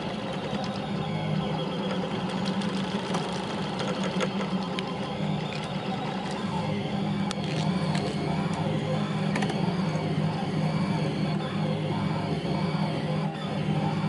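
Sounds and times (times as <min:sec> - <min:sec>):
stepper motors whirring: 0:00.0 - 0:14.0.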